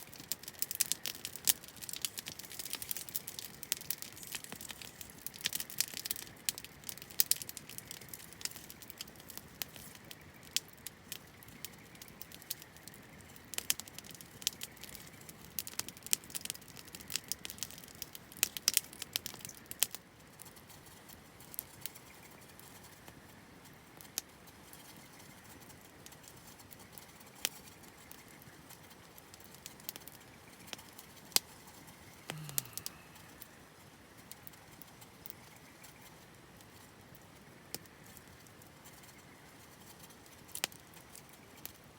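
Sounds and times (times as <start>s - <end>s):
campfire wood crackling and popping: 0.0s - 41.9s.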